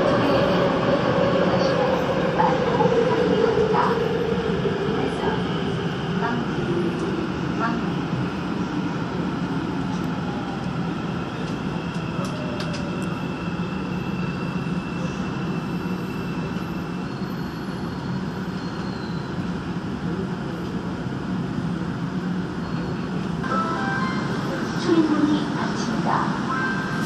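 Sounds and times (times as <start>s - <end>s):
metro train rumbling: 0.0s - 27.0s.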